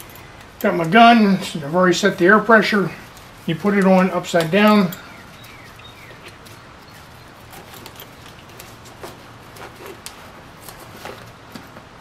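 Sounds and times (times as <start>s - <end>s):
low shop hum: 0.0s - 12.0s.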